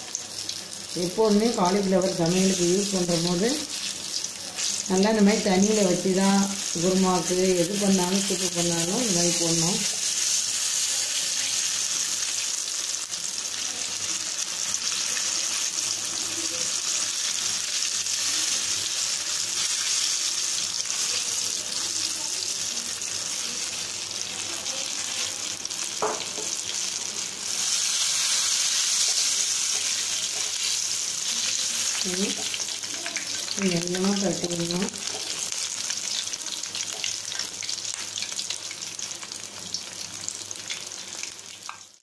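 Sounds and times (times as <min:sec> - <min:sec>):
fritters sizzling in hot oil: 0:00.0 - 0:42.0.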